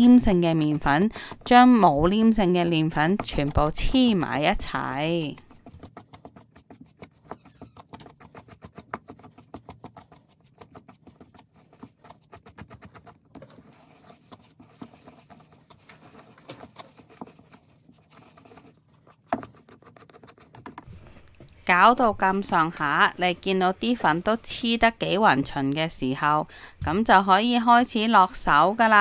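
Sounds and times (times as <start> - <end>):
chopsticks scraping metal bowl: 0.0 - 8.3, 13.5 - 29.0.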